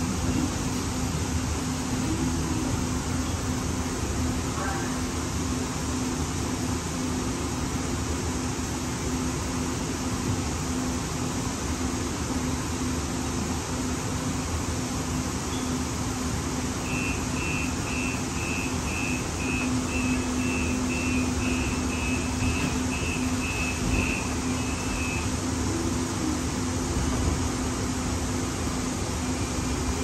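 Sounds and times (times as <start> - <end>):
train car running hum: 0.0 - 30.0.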